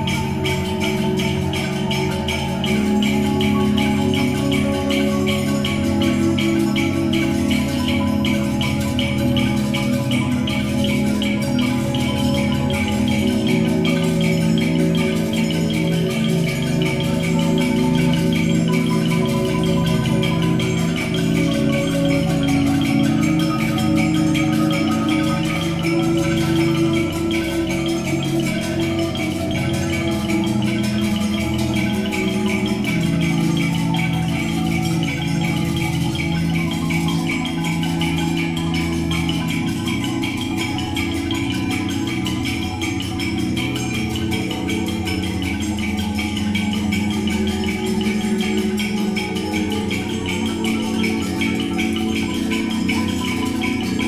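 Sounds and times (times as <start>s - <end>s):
marimba ensemble playing quick notes: 0.0s - 54.0s.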